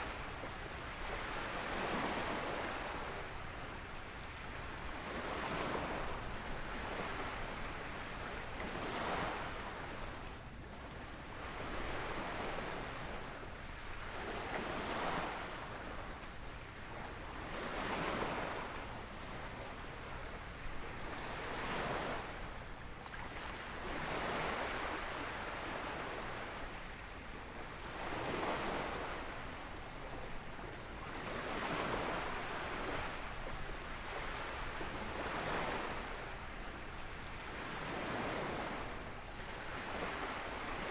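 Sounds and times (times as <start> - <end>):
small waves washing onto beach: 0.0 - 40.9.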